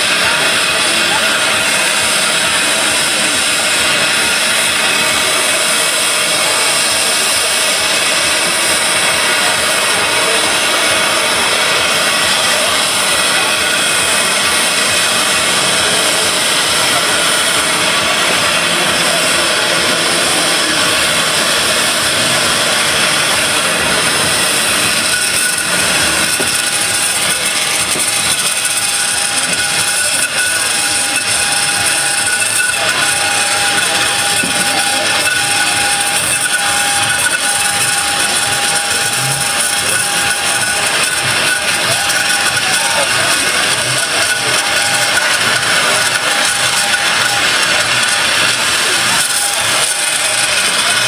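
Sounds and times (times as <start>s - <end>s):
machinery running loudly: 0.0s - 51.0s.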